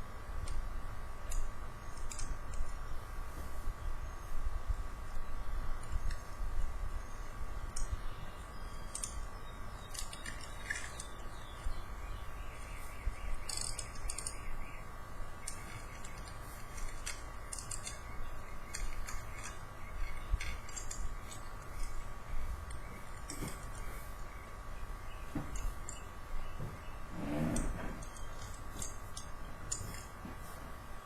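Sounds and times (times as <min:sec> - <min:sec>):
faint whine: 0:00.0 - 0:31.0
low electrical hum: 0:00.0 - 0:31.0.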